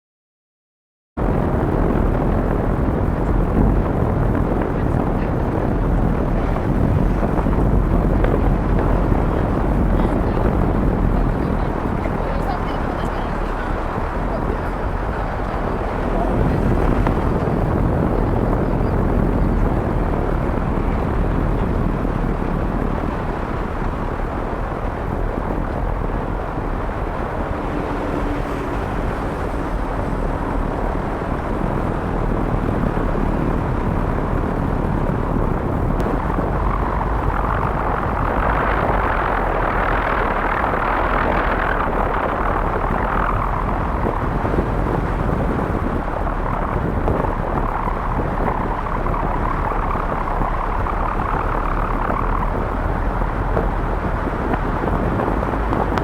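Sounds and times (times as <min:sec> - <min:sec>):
wind buffeting microphone: 0:01.2 - 0:56.0.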